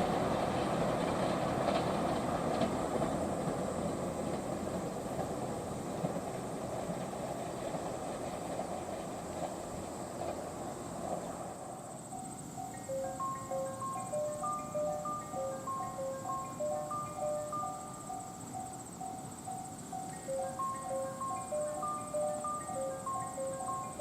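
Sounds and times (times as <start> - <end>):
faint wheel noise: 0.0 - 24.0
train rumbling along track: 0.0 - 24.0.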